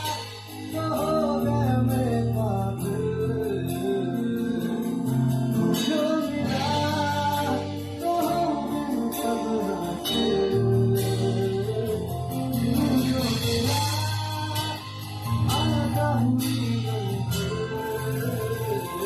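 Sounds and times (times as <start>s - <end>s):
guitar: 0.0s - 19.0s
person singing: 0.0s - 19.0s
steady beat: 0.0s - 19.0s.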